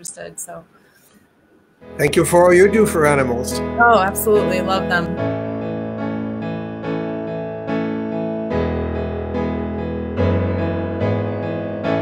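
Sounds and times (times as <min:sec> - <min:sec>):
deep bass piano note: 0:01.8 - 0:12.0
piano chords: 0:01.8 - 0:12.0.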